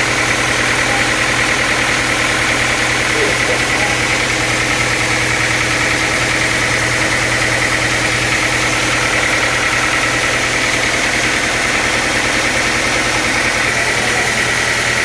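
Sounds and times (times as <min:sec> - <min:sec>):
high machine whine: 0:00.0 - 0:15.0
sawmill machinery droning: 0:00.0 - 0:15.0.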